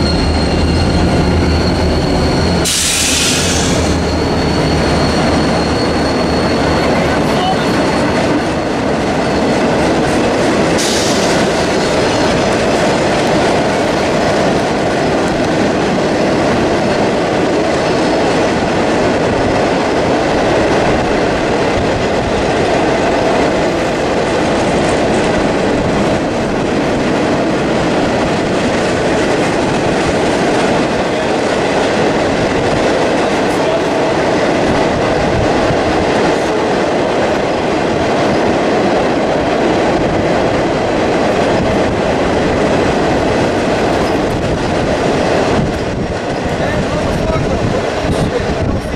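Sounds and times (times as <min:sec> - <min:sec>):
train wheels rattling on rails: 0:00.0 - 0:48.9.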